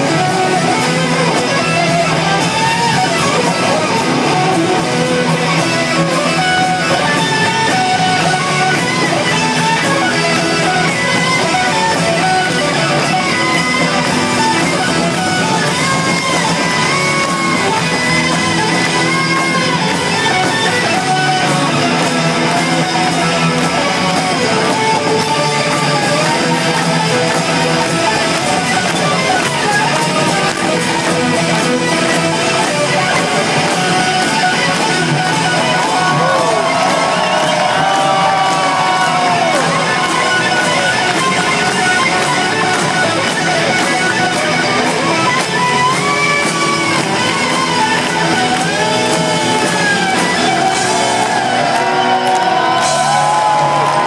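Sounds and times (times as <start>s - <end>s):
electric lead guitar bending notes: 0.0s - 54.0s
live rock band playing: 0.0s - 54.0s.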